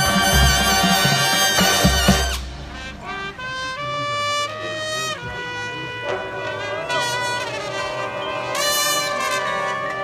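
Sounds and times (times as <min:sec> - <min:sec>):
brass horns playing chords: 0:00.0 - 0:10.0.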